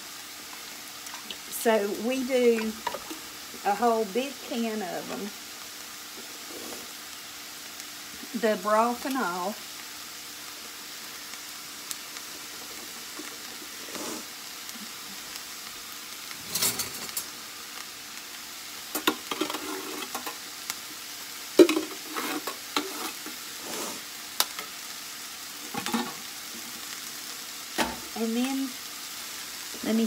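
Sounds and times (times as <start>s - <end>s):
vegetables sizzling in a skillet: 0.0s - 30.0s.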